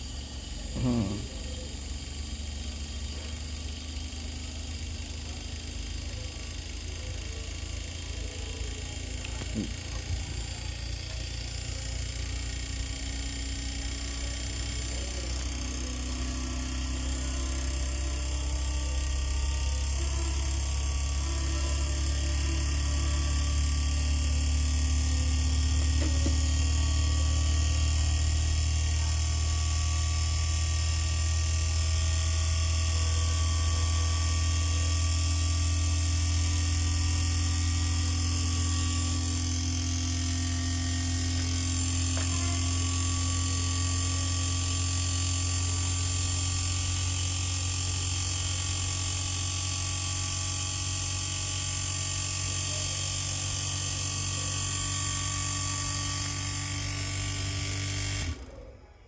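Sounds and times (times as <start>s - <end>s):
air conditioner unit humming and whining: 0.0s - 48.6s.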